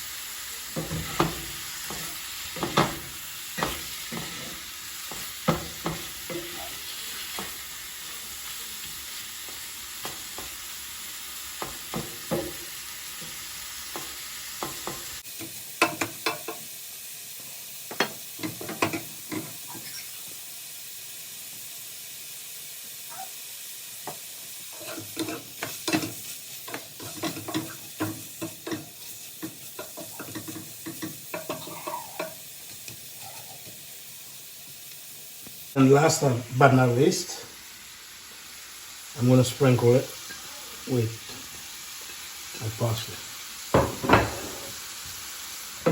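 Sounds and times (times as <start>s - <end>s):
shrimp sizzling in a skillet: 0.0s - 45.9s.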